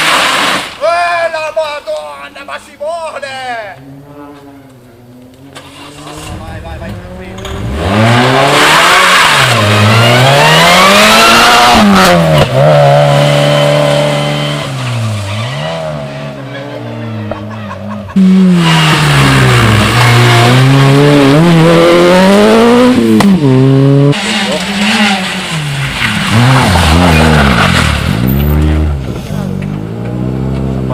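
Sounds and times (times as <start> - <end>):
rally car engines revving: 3.7 - 30.9.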